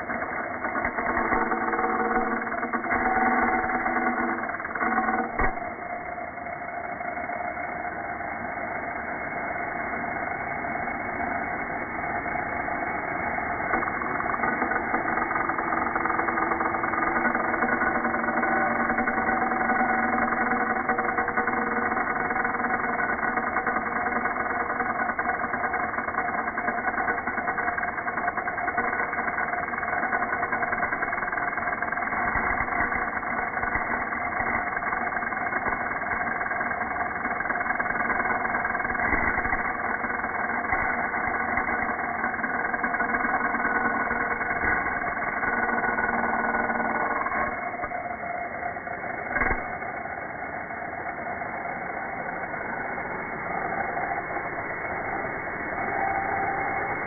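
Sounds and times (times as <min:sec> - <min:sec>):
slowed angle grinder drone: 0:00.0 - 0:57.0.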